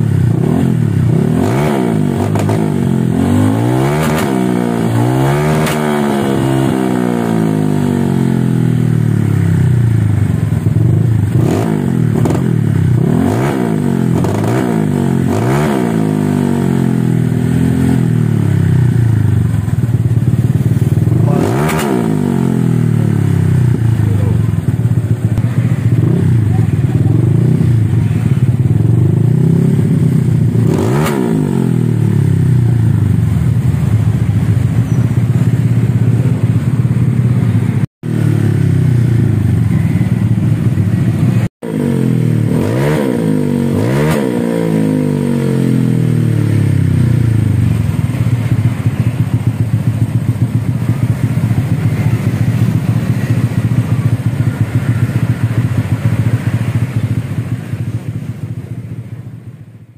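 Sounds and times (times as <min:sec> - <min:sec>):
scooter engine revving: 0:00.0 - 0:59.2.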